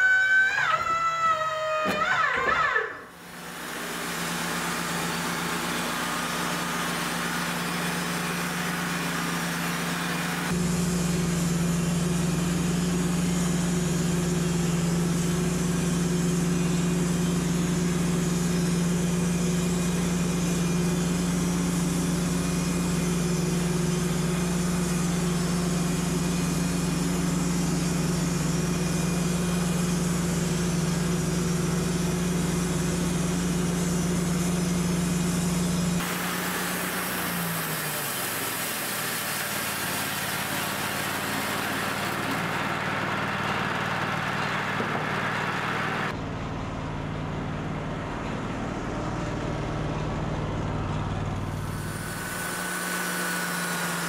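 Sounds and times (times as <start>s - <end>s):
band sawmill engine humming: 0.0s - 54.0s.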